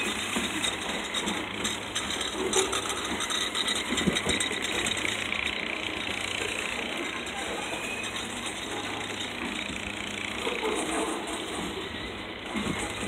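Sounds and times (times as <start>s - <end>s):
train cars clicking and clanking: 0.0s - 13.0s.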